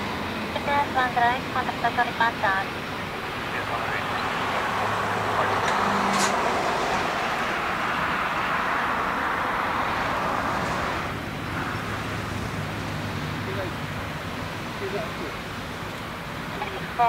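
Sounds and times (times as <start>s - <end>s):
distant jet engines rushing: 0.0s - 17.0s.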